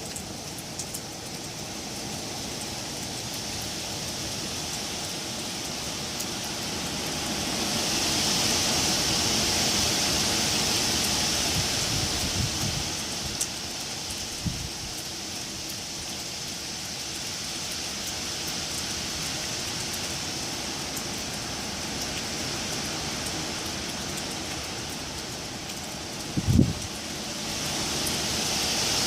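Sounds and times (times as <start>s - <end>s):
wind rustling leaves: 0.0s - 29.0s.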